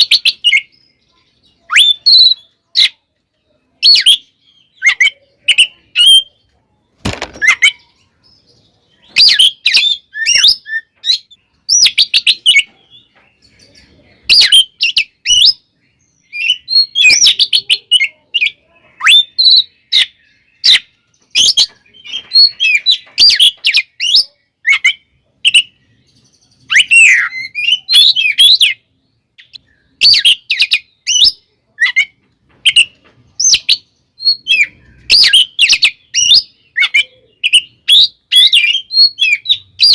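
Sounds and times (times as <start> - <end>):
bird singing whistles and chirps: 0.0 - 6.4, 7.4 - 39.9.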